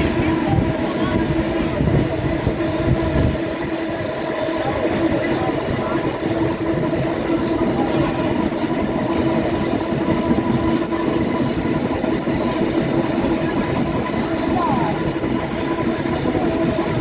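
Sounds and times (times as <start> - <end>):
subway train wheels rumbling on rails: 0.0 - 17.0.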